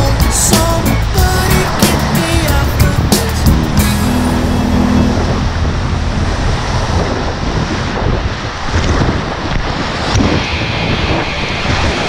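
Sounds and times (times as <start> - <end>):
whitewater rushing and crashing: 0.0 - 12.0.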